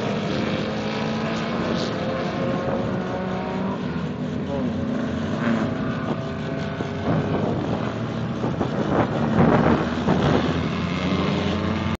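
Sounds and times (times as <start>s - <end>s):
distant race car engines rumbling: 0.0s - 12.0s.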